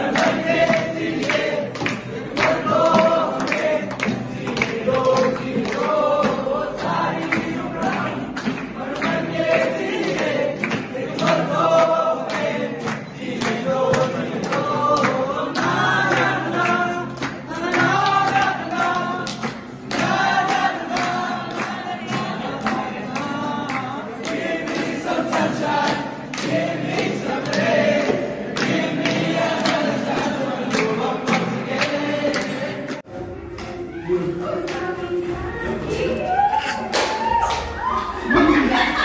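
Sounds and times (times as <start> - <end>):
group singing in chorus: 0.0 - 39.0
strummed acoustic guitars: 0.0 - 39.0.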